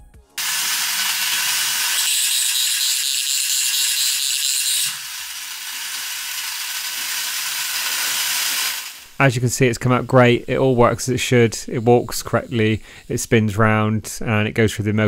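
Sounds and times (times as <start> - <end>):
toy motor whirring: 0.4 - 9.3, 10.0 - 13.6.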